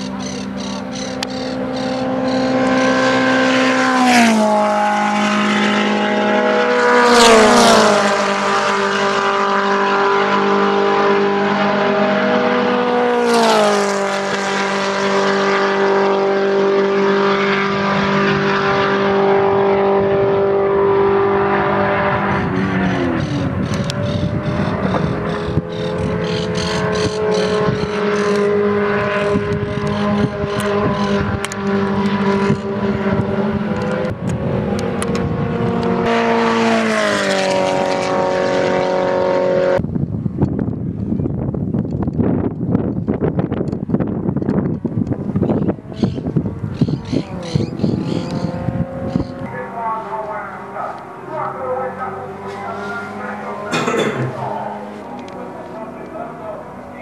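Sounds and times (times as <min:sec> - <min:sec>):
race cars passing by: 0:00.0 - 0:39.9, 0:42.0 - 0:57.0
race car engines at high revs: 0:00.0 - 0:57.0.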